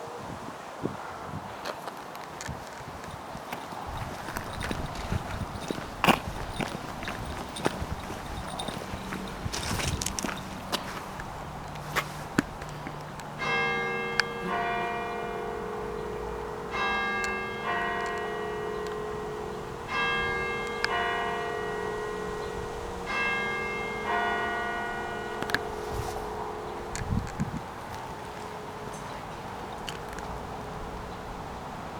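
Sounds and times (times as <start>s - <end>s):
clock bells chiming: 3.1s - 31.2s.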